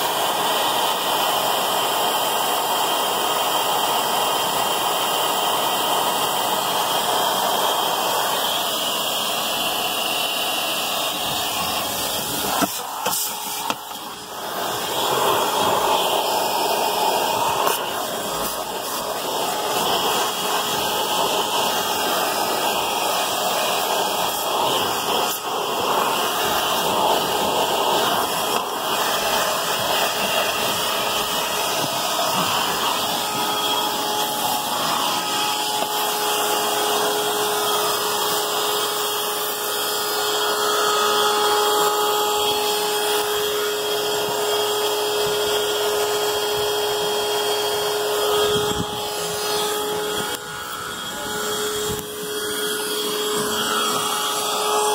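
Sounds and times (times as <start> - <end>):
vacuum cleaner running: 0.0 - 54.9
vacuum nozzle on carpet: 0.0 - 54.9.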